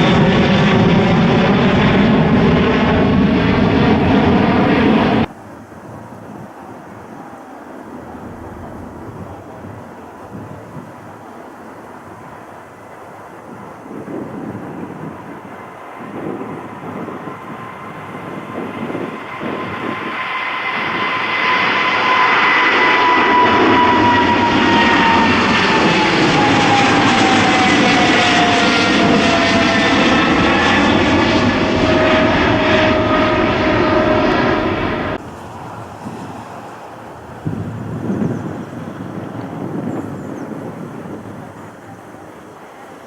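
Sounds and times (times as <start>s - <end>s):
jet airliner passing: 0.0s - 5.3s, 6.6s - 43.0s.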